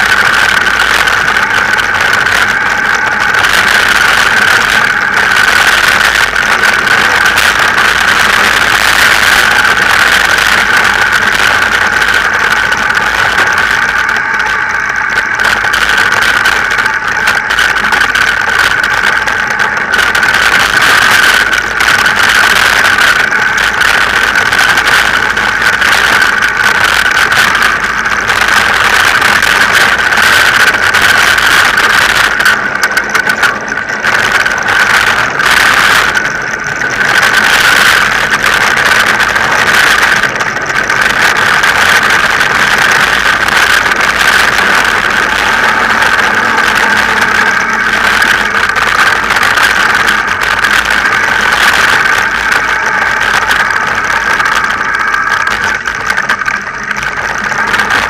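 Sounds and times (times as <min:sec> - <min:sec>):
camera rattling: 0:00.0 - 0:58.0
steady high whine: 0:00.0 - 0:58.0
wind rush: 0:00.0 - 0:58.0.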